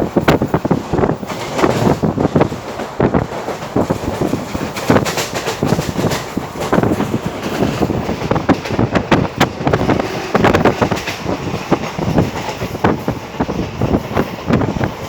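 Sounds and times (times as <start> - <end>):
train rumbling on track: 0.0 - 15.0
wheels clattering on rails: 0.0 - 15.0.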